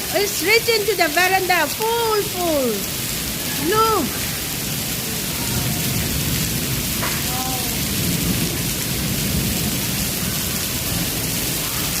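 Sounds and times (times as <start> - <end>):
hail and rain pelting: 0.0 - 12.0.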